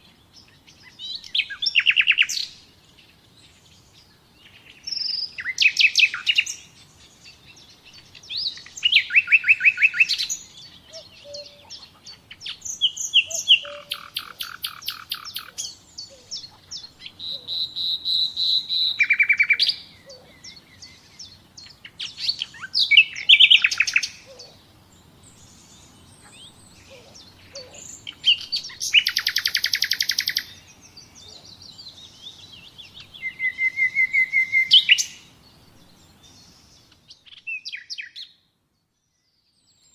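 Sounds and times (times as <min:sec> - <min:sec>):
soft bird chirps: 0:00.0 - 0:39.9
songbirds trilling: 0:00.0 - 0:39.9.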